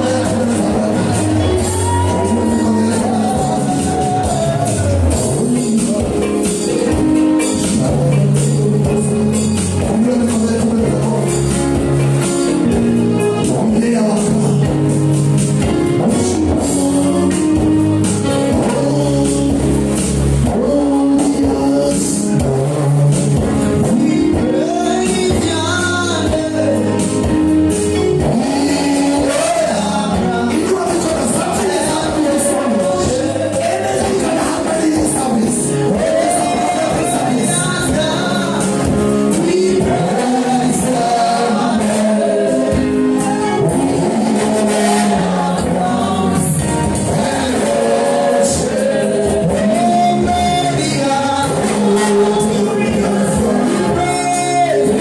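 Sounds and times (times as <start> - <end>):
bass line: 0.0 - 55.0
gospel singing voices: 0.0 - 55.0
guitar: 0.0 - 55.0
instrumental backing: 0.0 - 55.0
percussion: 0.0 - 55.0.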